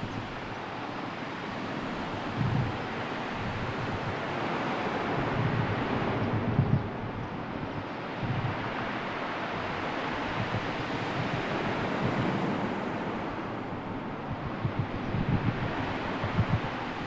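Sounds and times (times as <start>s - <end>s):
sea surf washing: 0.0s - 17.0s
wind buffeting microphone: 1.6s - 17.0s.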